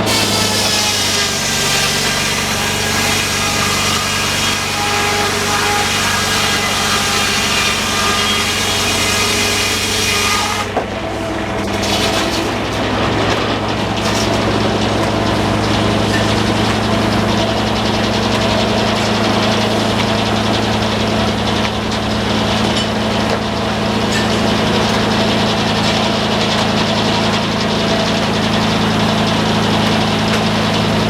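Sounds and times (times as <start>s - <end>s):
saw blade cutting wood: 0.0s - 31.0s
sawmill engine running: 0.0s - 31.0s.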